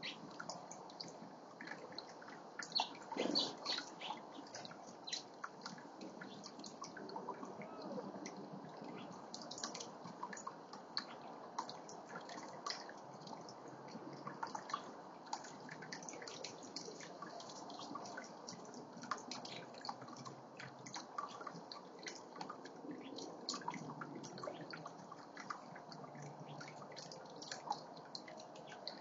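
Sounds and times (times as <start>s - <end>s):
water fountain trickling: 0.0s - 29.0s.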